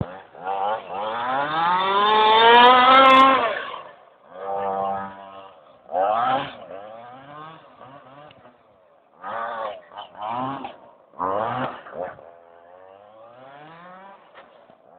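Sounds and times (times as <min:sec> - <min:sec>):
toy car motor revving: 0:00.0 - 0:08.6, 0:09.2 - 0:14.9.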